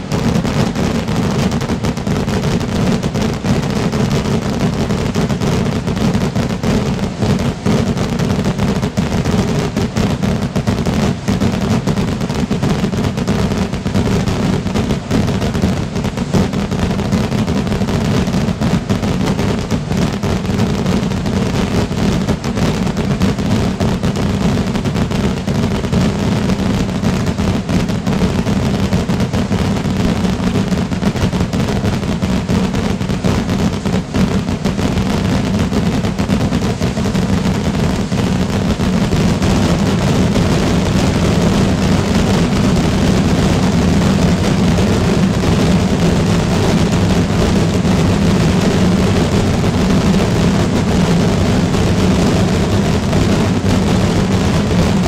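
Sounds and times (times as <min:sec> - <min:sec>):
sky rockets bursting: 0:00.0 - 0:55.0.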